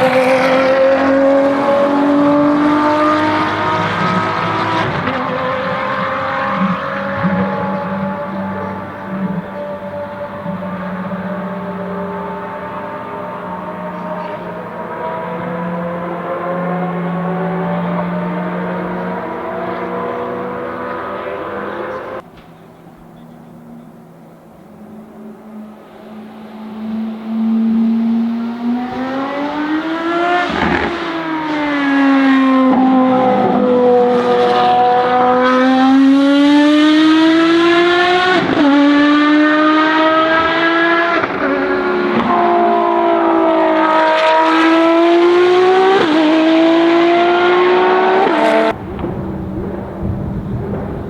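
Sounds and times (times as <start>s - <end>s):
racing car engine: 0.0s - 51.0s.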